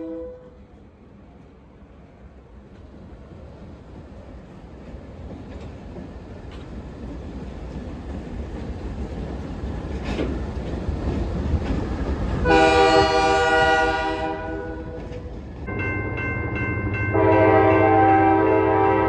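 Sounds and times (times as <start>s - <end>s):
approaching train rumble: 0.0s - 19.0s.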